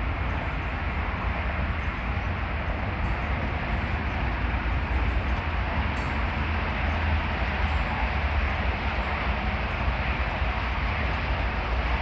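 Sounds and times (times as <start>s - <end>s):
helicopter rotor and engine rumble: 0.0s - 12.0s.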